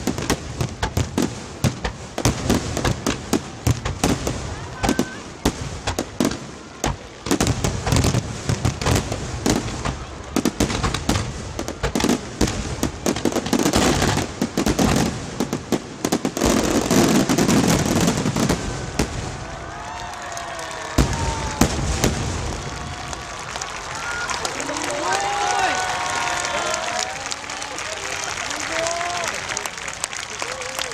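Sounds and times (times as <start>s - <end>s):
firework bursts and crackling: 0.0s - 30.9s.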